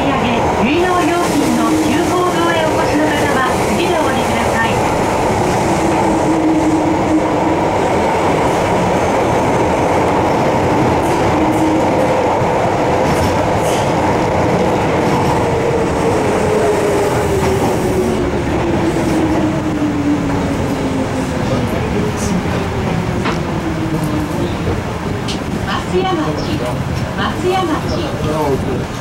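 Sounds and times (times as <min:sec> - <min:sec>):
train rumble and wheel noise: 0:00.0 - 0:29.0.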